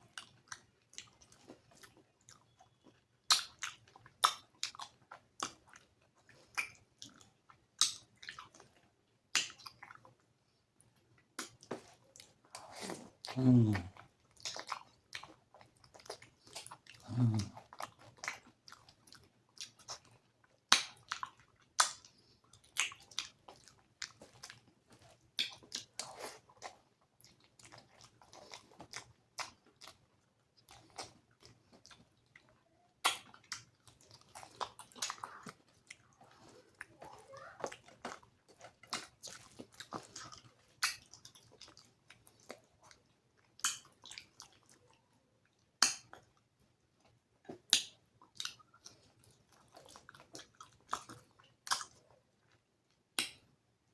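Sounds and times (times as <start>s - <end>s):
close chewing with mouth smacks: 0.0s - 53.9s.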